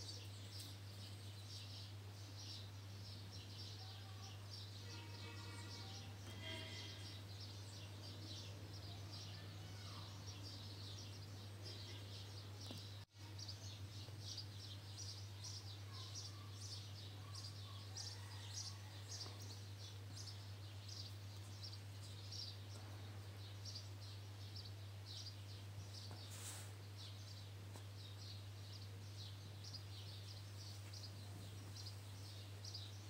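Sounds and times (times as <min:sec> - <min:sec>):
faint bird chirps: 0:02.6 - 0:33.0.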